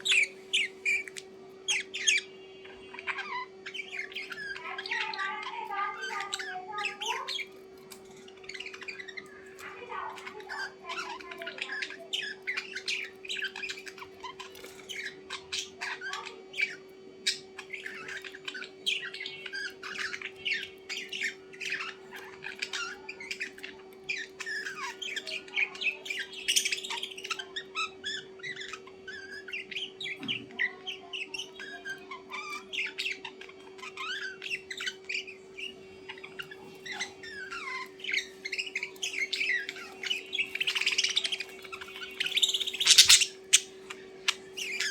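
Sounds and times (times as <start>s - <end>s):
small birds chirping and squawking: 0.0s - 44.9s.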